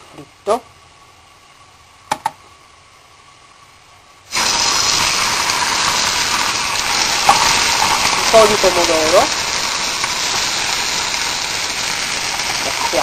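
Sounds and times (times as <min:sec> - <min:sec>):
sauce sizzling in hot oil: 0:00.3 - 0:13.0.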